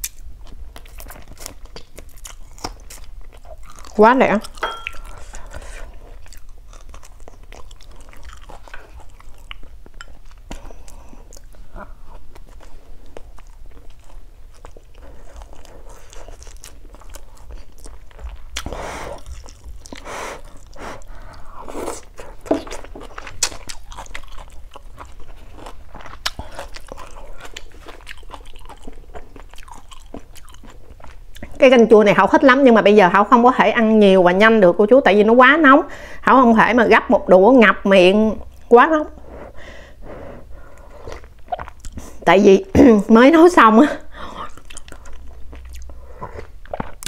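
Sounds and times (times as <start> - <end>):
person chewing: 0.0 - 31.6, 38.4 - 42.3, 44.1 - 47.0.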